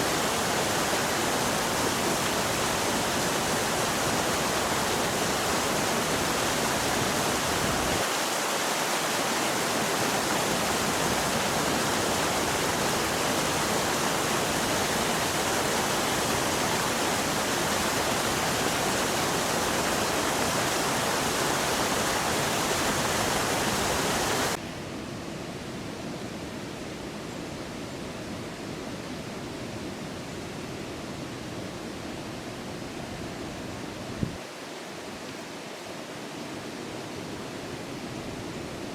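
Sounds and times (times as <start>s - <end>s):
flowing water rushing: 0.0s - 24.6s, 31.5s - 38.9s.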